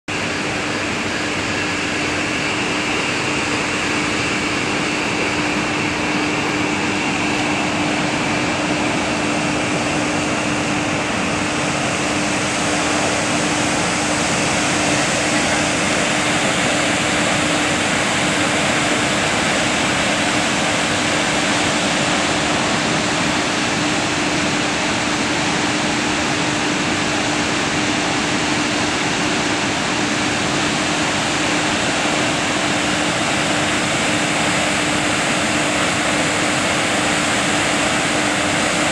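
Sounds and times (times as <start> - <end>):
roar of churning white water: 0.1 - 38.9.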